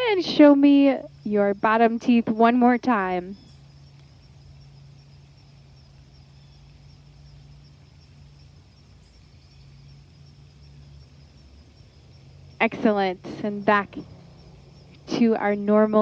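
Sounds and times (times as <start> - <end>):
high insect chirring: 0.0 - 16.0
low hum: 0.0 - 16.0.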